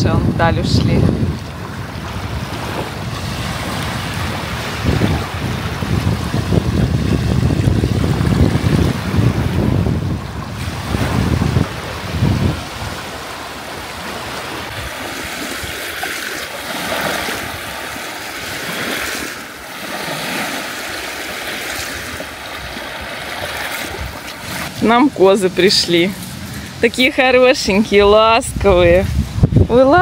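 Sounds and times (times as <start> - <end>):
wind rumble on microphone: 0.0 - 21.0, 21.7 - 30.0
small waves lapping on shore: 0.0 - 30.0.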